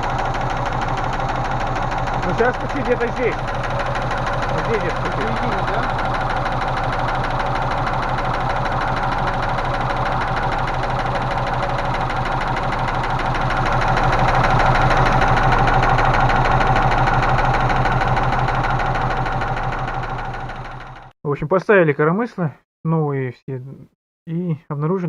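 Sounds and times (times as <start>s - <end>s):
engine idling: 0.0s - 21.1s
fast even engine ticking: 0.0s - 21.1s.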